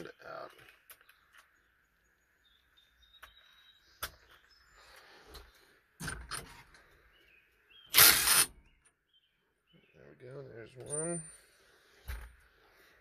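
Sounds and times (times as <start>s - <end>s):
faint bird chirps: 0.0s - 5.9s, 6.6s - 12.0s.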